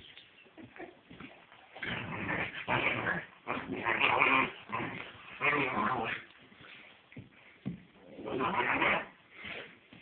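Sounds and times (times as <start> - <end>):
puppies play-fighting noises: 0.4 - 10.0.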